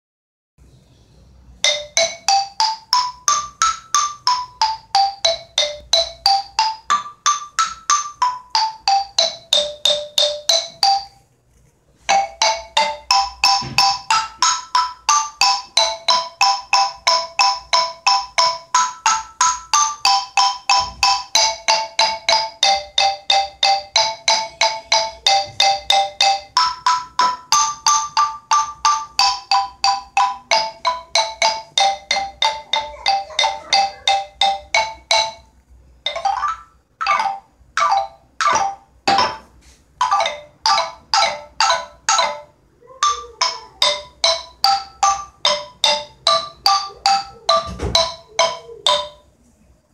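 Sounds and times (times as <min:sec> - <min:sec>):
wooden xylophone notes: 0:01.4 - 0:49.5.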